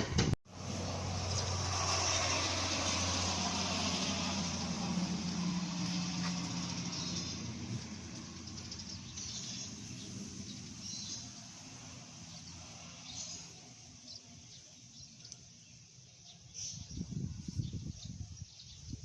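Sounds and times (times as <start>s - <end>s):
vehicle hum: 0.0s - 18.2s
birds chirping: 3.0s - 19.0s.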